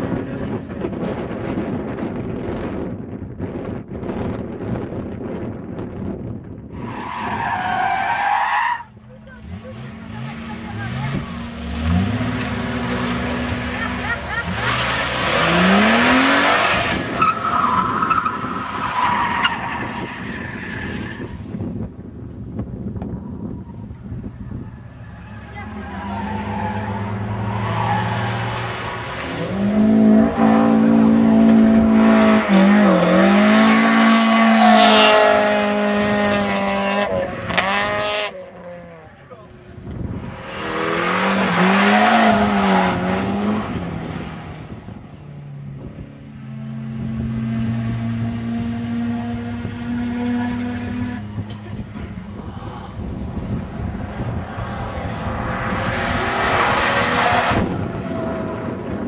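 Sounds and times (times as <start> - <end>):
car tyres squealing: 6.7 - 21.8, 23.0 - 39.3, 40.0 - 45.0, 47.4 - 59.0.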